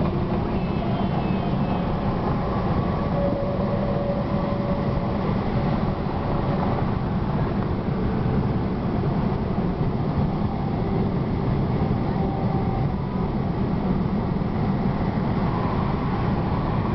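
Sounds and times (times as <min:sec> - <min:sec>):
car road and engine noise: 0:00.0 - 0:16.9.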